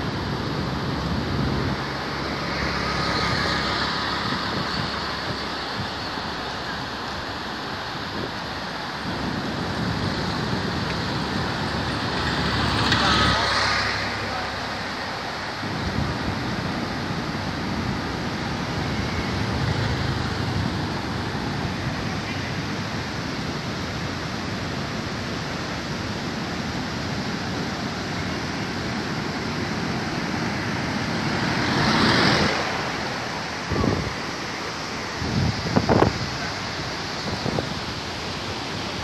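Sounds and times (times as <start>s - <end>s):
river roaring through barrage: 0.0s - 39.0s.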